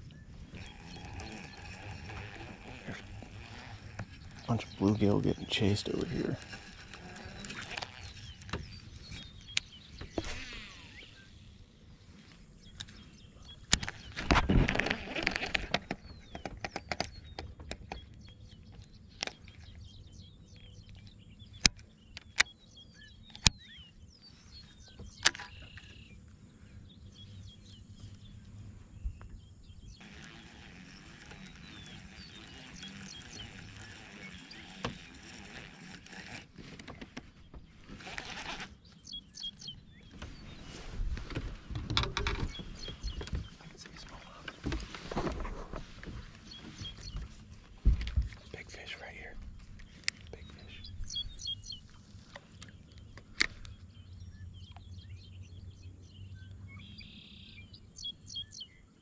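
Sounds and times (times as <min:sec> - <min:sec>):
birds chirping faintly: 0:00.0 - 0:59.0.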